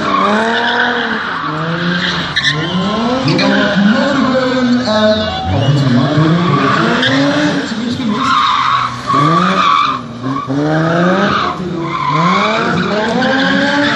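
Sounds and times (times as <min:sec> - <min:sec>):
car engine revving hard: 0:00.0 - 0:13.9
tyres squealing and skidding: 0:00.0 - 0:13.9.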